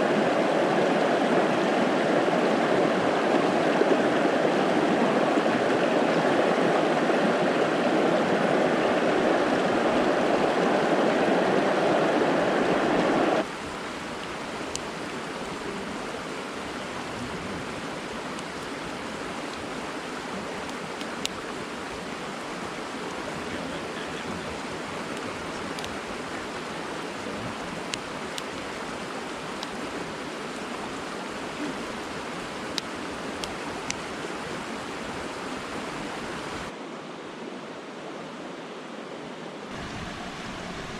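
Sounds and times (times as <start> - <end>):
brook water rushing: 0.0 - 40.9.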